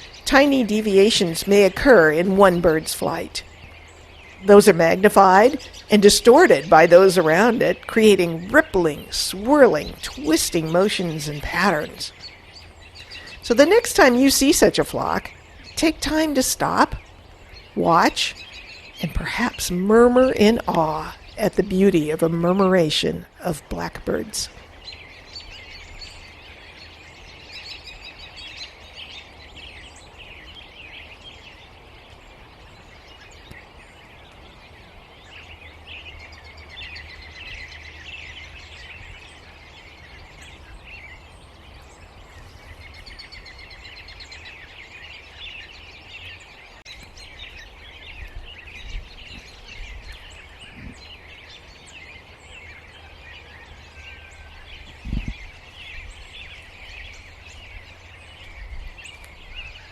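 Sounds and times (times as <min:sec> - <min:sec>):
flock of blackbirds chattering: 0:00.0 - 0:59.9
wind rumble on microphone: 0:00.0 - 0:59.9.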